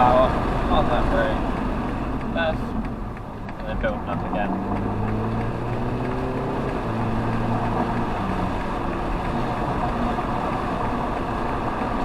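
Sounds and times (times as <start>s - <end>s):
car engine accelerating: 0.0s - 12.0s
road and wind noise: 0.0s - 12.0s.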